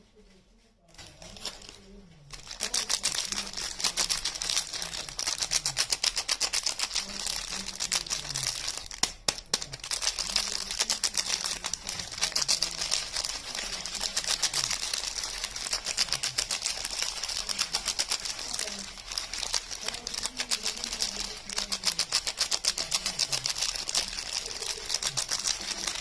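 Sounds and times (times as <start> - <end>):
packaging crinkling: 0.9 - 26.0.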